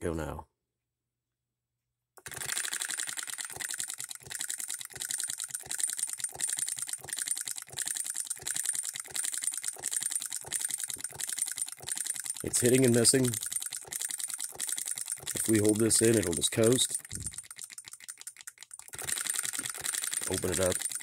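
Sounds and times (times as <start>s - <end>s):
model engine clicking and clattering: 2.2s - 21.0s.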